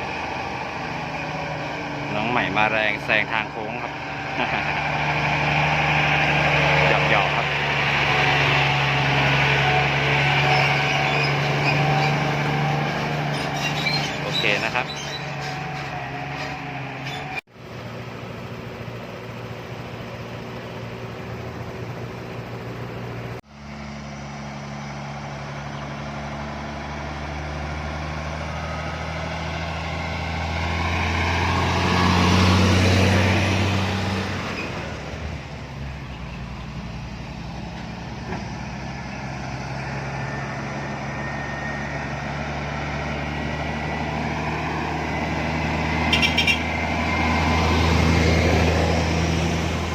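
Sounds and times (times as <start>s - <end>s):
truck diesel engine climbing: 0.0s - 49.9s.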